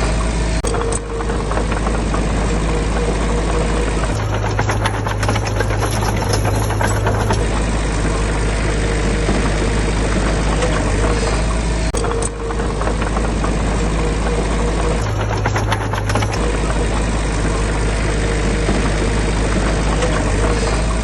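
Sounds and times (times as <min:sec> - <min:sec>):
heavy machinery diesel engine: 0:00.0 - 0:21.0
rapid metallic rattling: 0:00.6 - 0:21.0.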